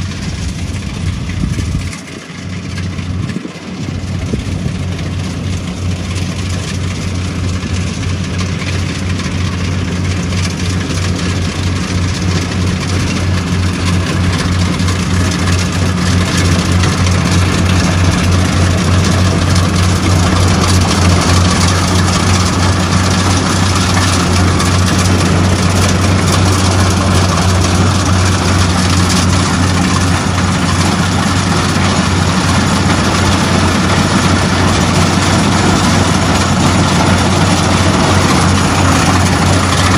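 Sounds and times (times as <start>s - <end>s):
combine harvester engine hum: 0.0s - 39.9s
threshing machinery rattling: 0.0s - 39.9s.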